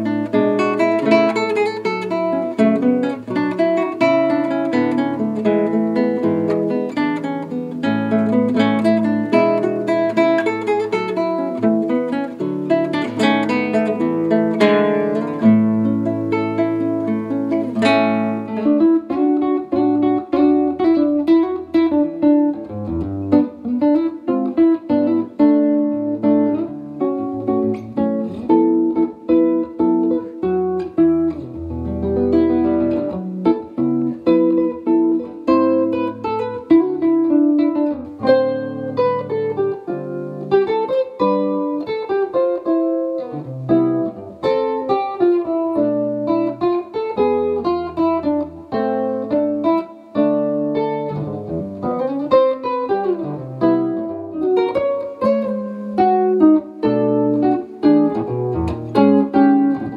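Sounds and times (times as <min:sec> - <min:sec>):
fingerstyle classical guitar: 0:00.0 - 0:59.9.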